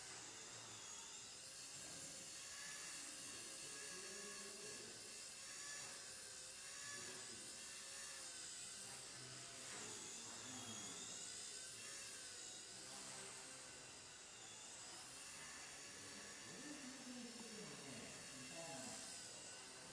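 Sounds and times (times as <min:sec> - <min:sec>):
toy helicopter rotors whining: 0:00.0 - 0:19.9.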